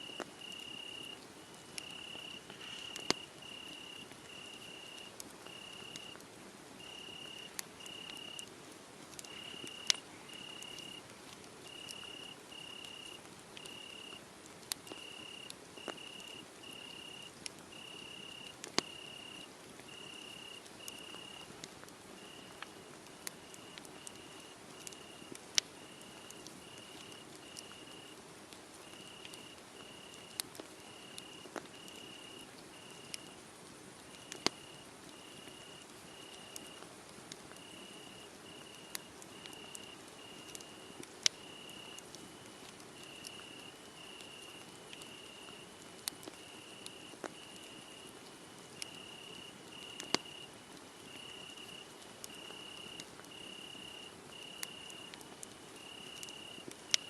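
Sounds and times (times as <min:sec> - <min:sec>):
crickets chirping: 0:00.0 - 0:06.2, 0:06.8 - 0:08.4, 0:09.3 - 0:11.0, 0:11.7 - 0:14.2, 0:14.9 - 0:21.4, 0:22.2 - 0:22.6, 0:23.4 - 0:28.2, 0:28.9 - 0:33.4, 0:34.2 - 0:36.8, 0:37.6 - 0:45.6, 0:46.4 - 0:48.1, 0:48.8 - 0:50.5, 0:51.1 - 0:55.2, 0:55.8 - 0:57.0
wood fire crackling with pops: 0:00.1 - 0:57.0.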